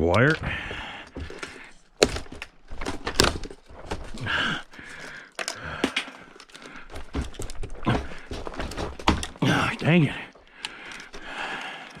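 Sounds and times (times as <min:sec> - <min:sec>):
dishwasher parts clacking and cracking: 0:00.0 - 0:10.0.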